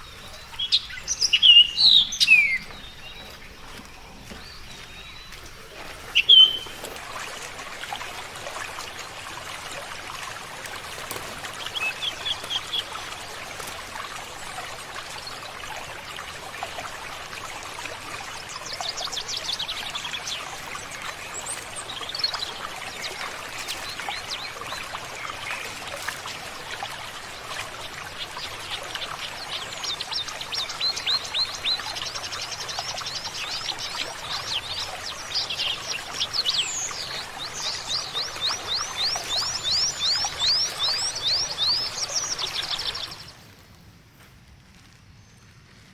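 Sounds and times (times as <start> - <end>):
birds chirping and trilling: 0.0 - 7.0, 7.7 - 43.5
steady hiss like running water: 0.0 - 43.6.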